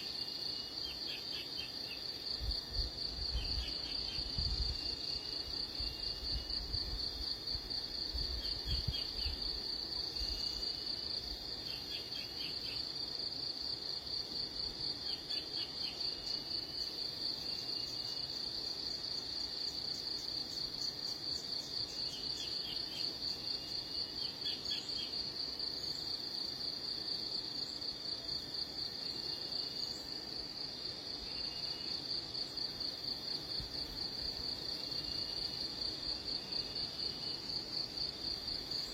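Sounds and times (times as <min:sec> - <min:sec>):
high-pitched insect trill: 0:00.0 - 0:38.9.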